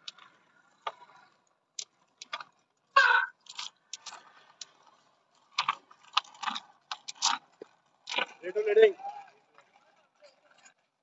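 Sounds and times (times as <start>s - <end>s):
irregular clicks and rattles: 0.0s - 11.0s.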